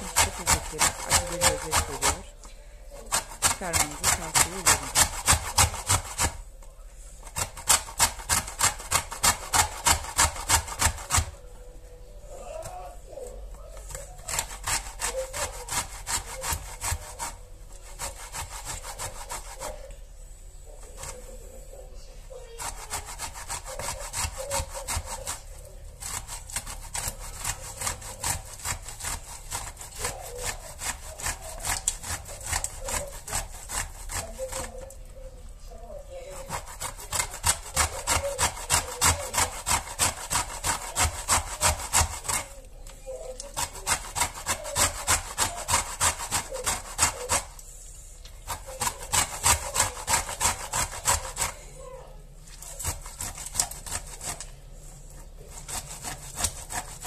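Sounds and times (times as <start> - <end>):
grater rasping peel: 0.0 - 2.3, 3.0 - 6.5, 7.2 - 11.4, 12.3 - 20.0, 20.8 - 21.6, 22.3 - 35.1, 36.0 - 47.8, 48.4 - 51.8, 52.5 - 57.0.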